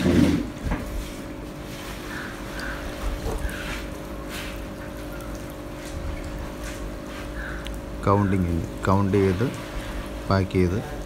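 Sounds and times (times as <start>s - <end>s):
aerator humming: 0.0s - 11.0s
water sloshing and trickling: 0.0s - 11.0s
soft splashes: 0.8s - 11.0s.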